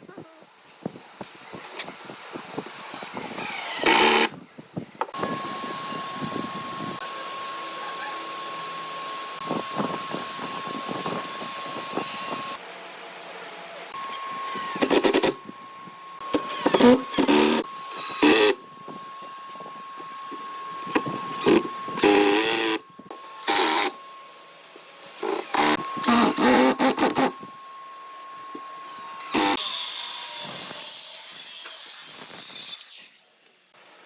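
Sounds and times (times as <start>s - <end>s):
electric drill bursts: 2.8s - 4.4s, 5.2s - 12.6s, 13.9s - 33.2s.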